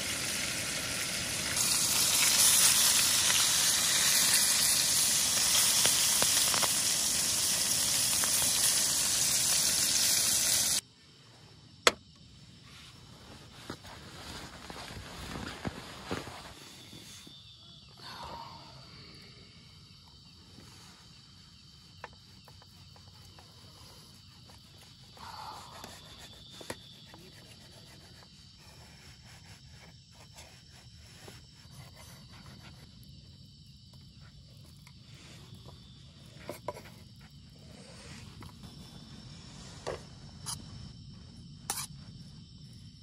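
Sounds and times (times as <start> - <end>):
insects chirping: 0.0 - 43.0.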